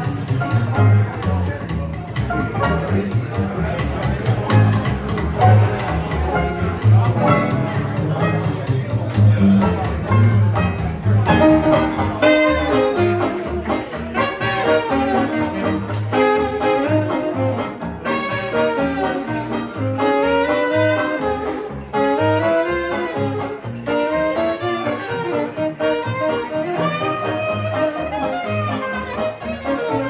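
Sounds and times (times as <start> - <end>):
banjo or guitar strumming: 0.0 - 30.0
bass line: 0.0 - 30.0
horn playing melody: 4.4 - 30.0.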